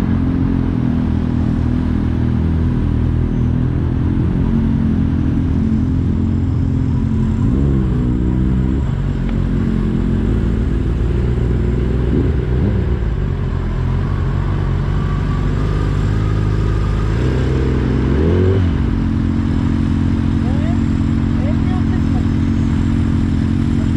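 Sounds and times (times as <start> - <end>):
motorcycle engine running at low revs: 0.0 - 23.9.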